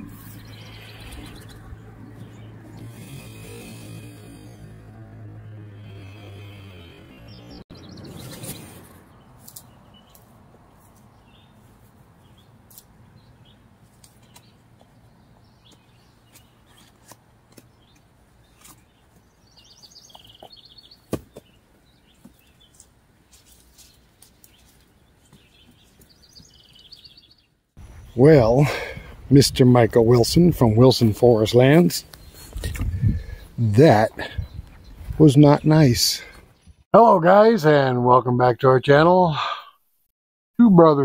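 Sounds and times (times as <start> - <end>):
birds chirping: 0.0 - 39.8.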